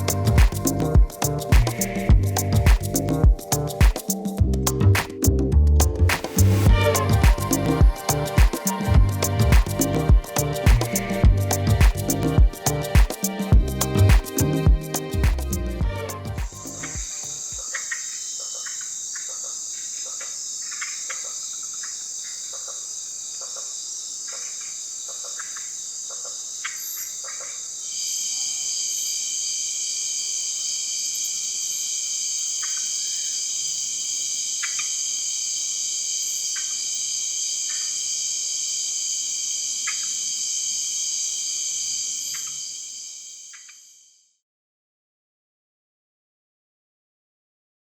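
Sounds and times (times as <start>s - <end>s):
insects trilling: 0.0s - 4.4s, 6.2s - 44.3s
short insect chirps: 0.0s - 4.4s, 6.1s - 15.6s, 16.5s - 44.4s
low insect trill: 0.0s - 5.4s, 6.2s - 44.4s.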